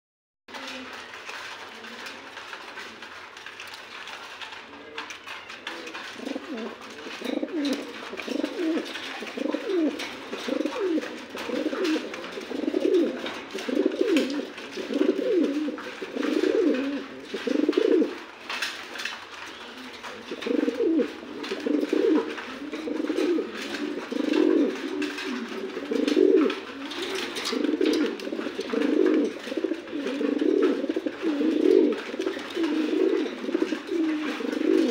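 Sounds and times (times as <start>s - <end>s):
pigeon cooing: 0.5s - 3.2s, 4.5s - 18.6s, 19.3s - 34.9s.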